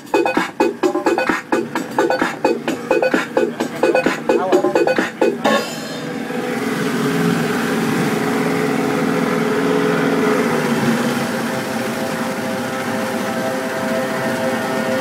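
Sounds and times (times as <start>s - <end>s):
speedboat engine droning: 0.0s - 15.0s.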